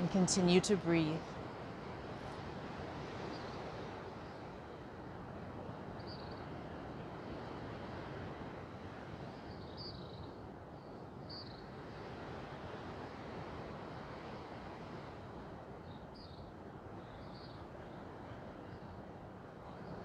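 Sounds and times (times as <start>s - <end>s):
open-air ambience: 0.0s - 20.0s.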